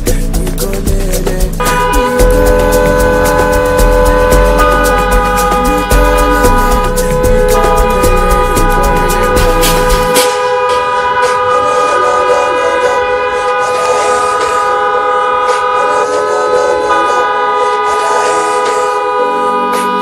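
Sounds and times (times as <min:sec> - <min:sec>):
car horns hooting: 0:01.6 - 0:20.0.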